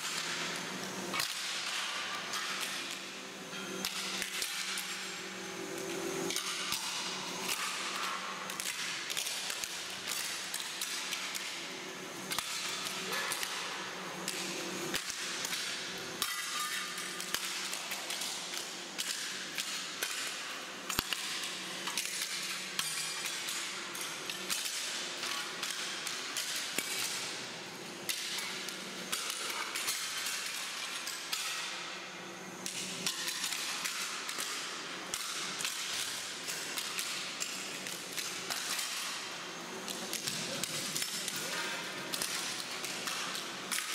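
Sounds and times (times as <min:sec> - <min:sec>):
steady low hum: 0:00.0 - 0:43.8.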